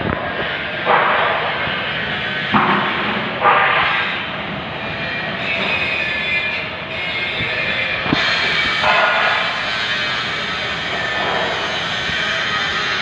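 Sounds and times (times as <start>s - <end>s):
high-pitched machine whine: 0.0s - 13.0s
metalworking machinery din: 0.0s - 13.0s.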